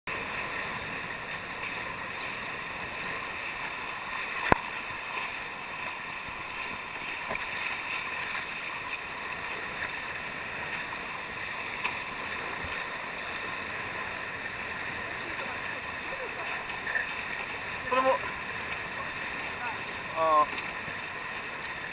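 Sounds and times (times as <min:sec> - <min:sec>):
boat hulls rushing through water: 0:00.0 - 0:21.9.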